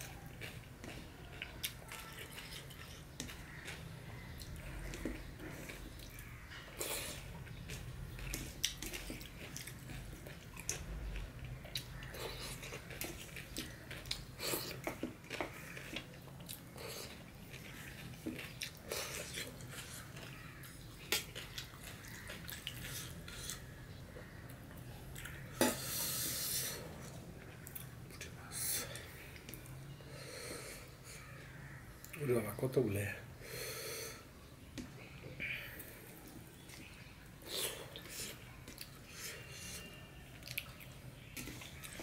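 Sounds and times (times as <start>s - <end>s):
person chewing food: 0.0s - 29.9s, 34.7s - 42.0s.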